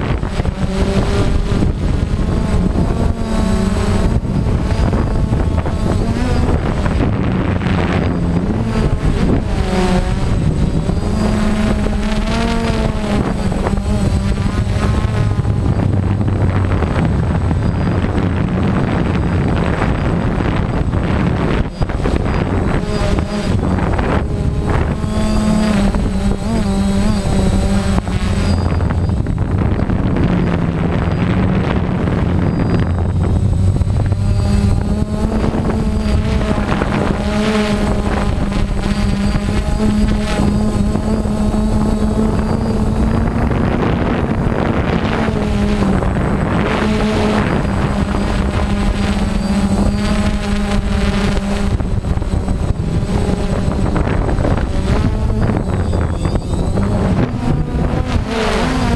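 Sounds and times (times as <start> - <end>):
drone propellers buzzing: 0.0 - 58.9.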